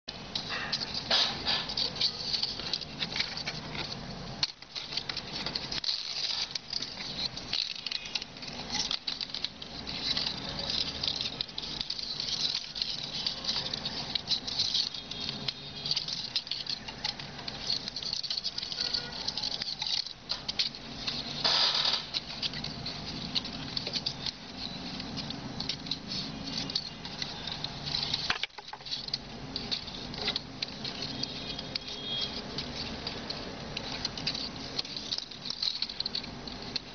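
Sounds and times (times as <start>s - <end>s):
palm frond rustling and crackling: 0.1s - 36.9s.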